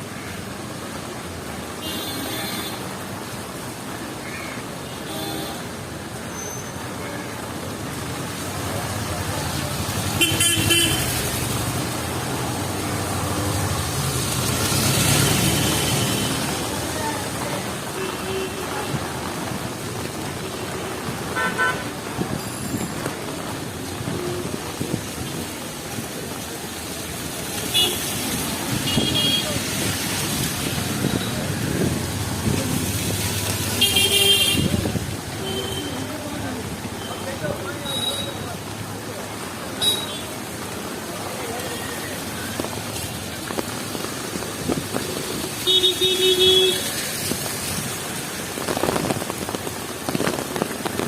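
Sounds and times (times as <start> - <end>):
passing traffic: 0.0 - 51.0.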